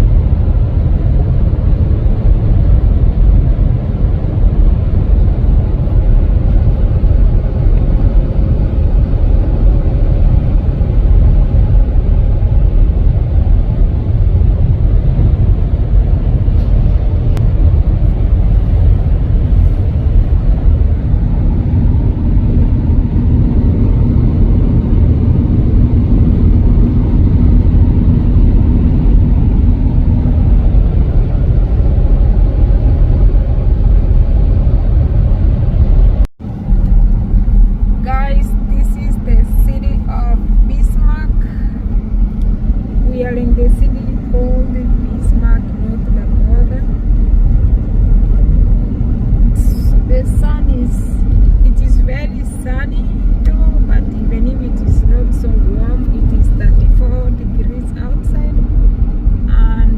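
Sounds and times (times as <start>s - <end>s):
car road and engine rumble: 0.0s - 59.9s
low steady hum: 0.0s - 59.9s.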